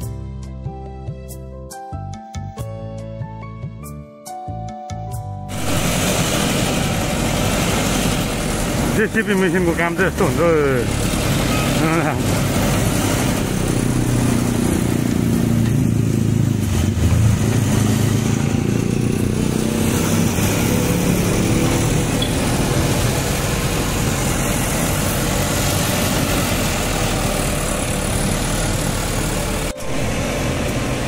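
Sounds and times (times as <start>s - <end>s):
diesel engine running under load: 5.5s - 31.0s.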